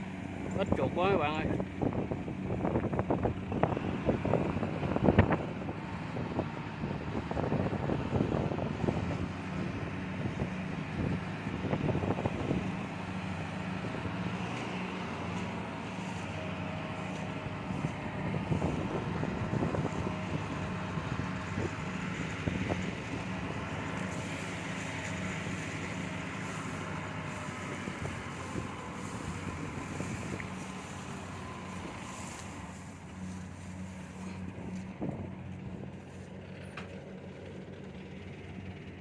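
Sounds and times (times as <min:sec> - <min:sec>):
combine harvester engine droning: 0:00.0 - 0:39.0
wind buffeting microphone: 0:00.2 - 0:36.5.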